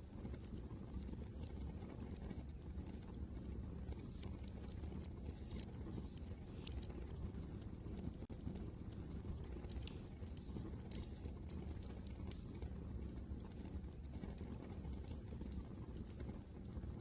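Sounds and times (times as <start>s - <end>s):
low rumble of wind: 0.0s - 17.0s
wood fire crackling: 0.0s - 17.0s.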